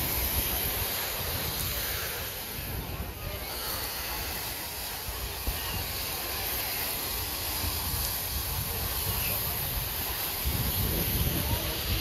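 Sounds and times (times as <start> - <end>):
surf breaking on beach: 0.0 - 12.0
wind rumbling on microphone: 0.0 - 12.0.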